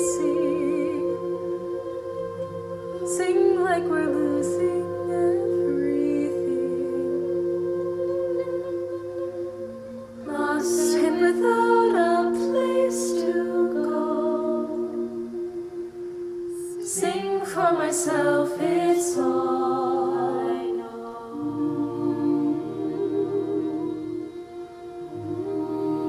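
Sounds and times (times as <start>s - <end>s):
choir singing a cappella: 0.0s - 26.0s.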